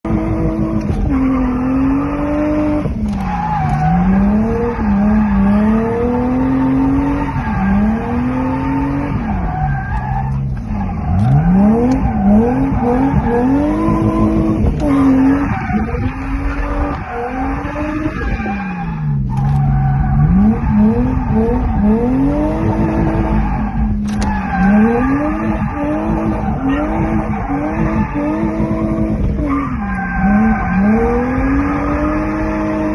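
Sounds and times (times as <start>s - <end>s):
car engine revving: 0.0s - 32.9s
tyres squealing and skidding: 0.2s - 32.9s.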